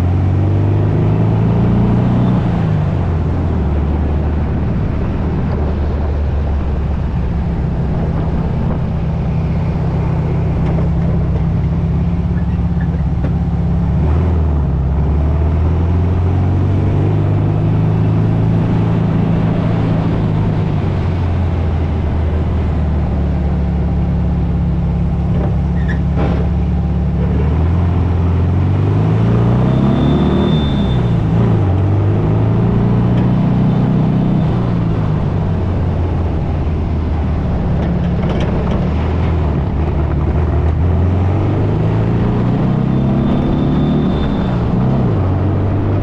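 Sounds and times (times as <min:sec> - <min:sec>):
buggy engine changing gears: 0:00.0 - 0:46.0.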